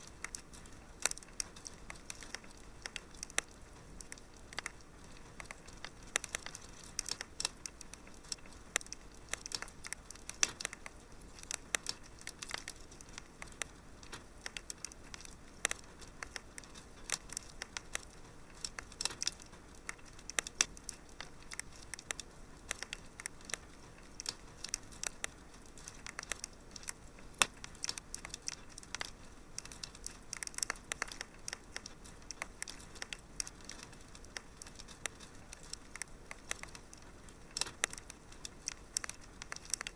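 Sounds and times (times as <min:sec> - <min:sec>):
faint hiss: 0:00.0 - 0:39.9
wood fire crackling: 0:00.0 - 0:39.9.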